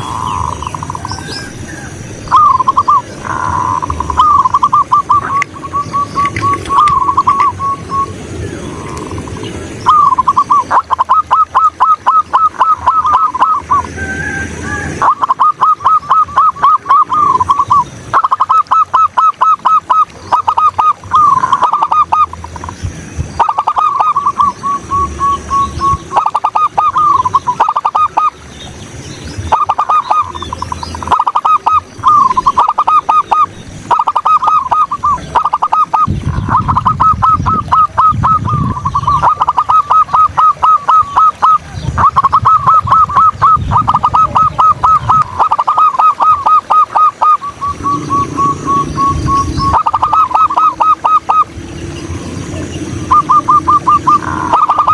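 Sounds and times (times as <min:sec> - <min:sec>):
dove cooing: 0:00.0 - 0:28.4, 0:29.4 - 0:54.9.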